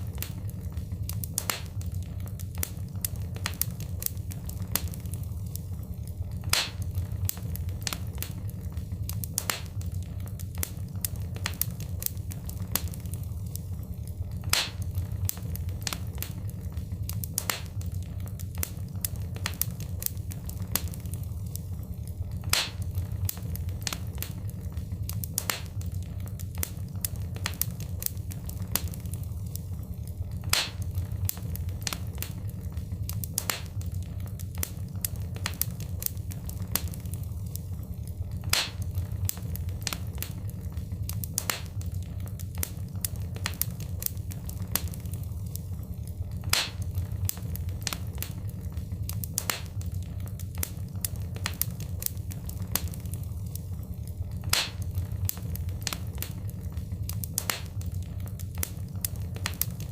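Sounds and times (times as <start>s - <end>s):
steady low rumble: 0.0s - 59.9s
wood fire crackling and popping: 0.0s - 59.9s.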